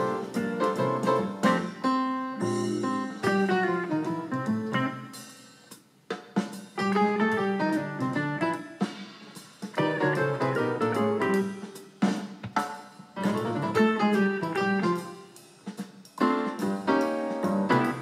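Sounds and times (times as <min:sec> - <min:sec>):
guitar and drums music: 0:00.0 - 0:18.0.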